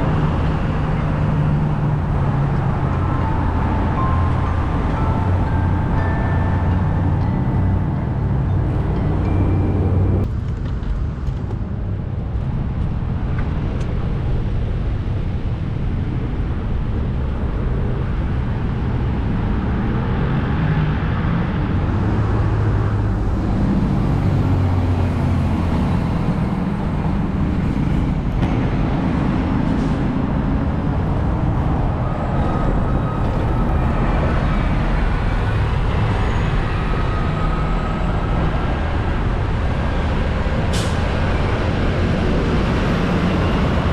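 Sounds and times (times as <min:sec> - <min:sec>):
busy street traffic: 0:00.0 - 0:43.9.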